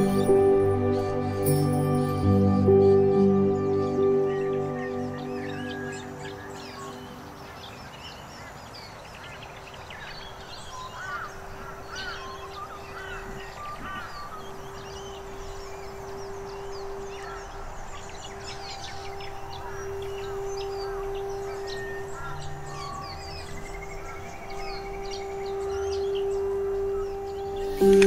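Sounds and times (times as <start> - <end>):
birds calling and chirping: 0.0 - 28.0.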